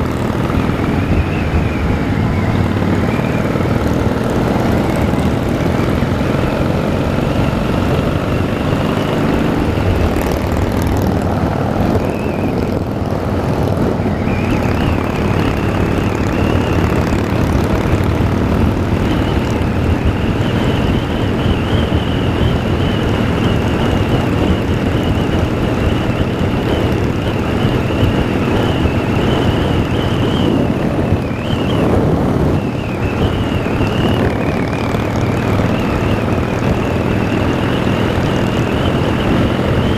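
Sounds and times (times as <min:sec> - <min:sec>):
motorcycle engine running: 0:00.0 - 0:39.9
rushing wind noise: 0:00.0 - 0:39.9.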